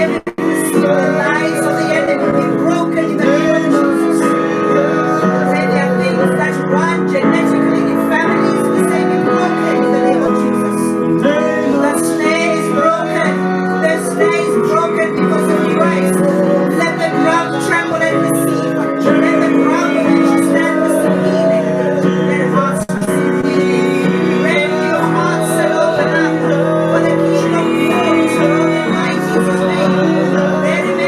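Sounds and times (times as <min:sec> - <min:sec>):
person singing: 0:00.0 - 0:31.0
sustained keyboard chords: 0:00.0 - 0:31.0.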